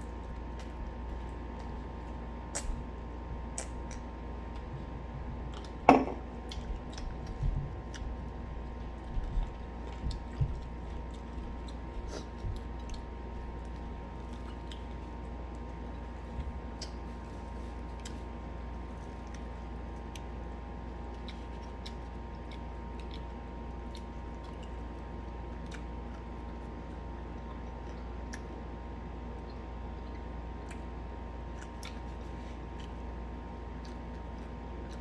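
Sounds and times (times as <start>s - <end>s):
people chewing crunchy food: 0.0s - 35.0s
steady low hum: 0.0s - 35.0s.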